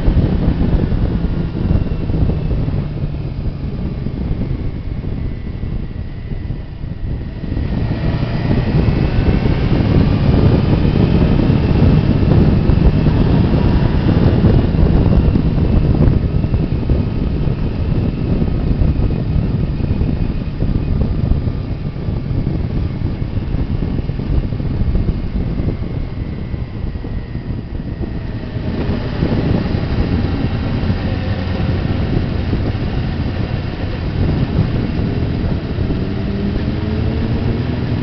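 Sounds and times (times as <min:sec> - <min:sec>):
motorcycle engine revving: 0:00.0 - 0:38.0
wind rushing past: 0:00.0 - 0:38.0.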